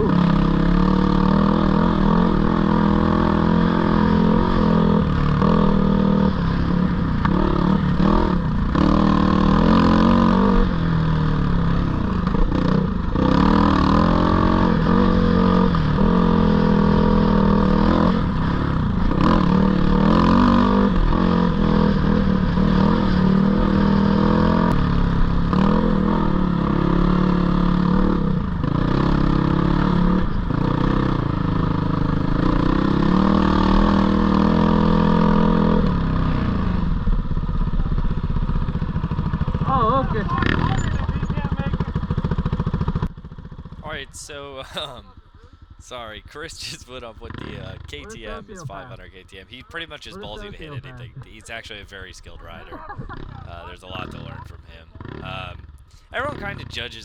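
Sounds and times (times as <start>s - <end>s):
dirt bike engine revving: 0.0s - 37.0s, 38.4s - 57.0s.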